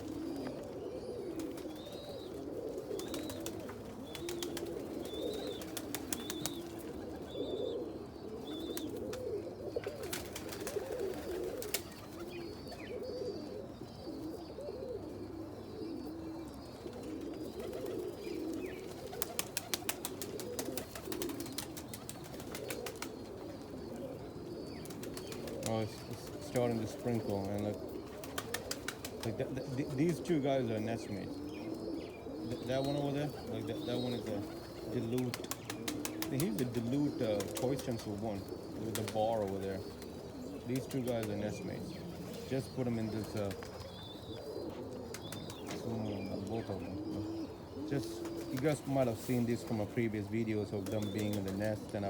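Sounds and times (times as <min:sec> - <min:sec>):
pigeons cooing: 0:00.0 - 0:52.0.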